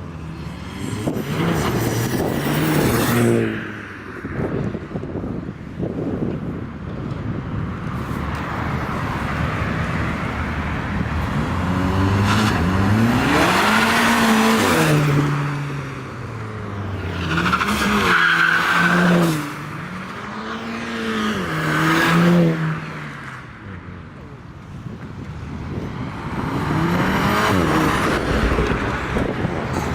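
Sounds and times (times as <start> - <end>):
cars accelerating hard: 0.1 - 4.8, 8.4 - 23.8, 25.7 - 29.9.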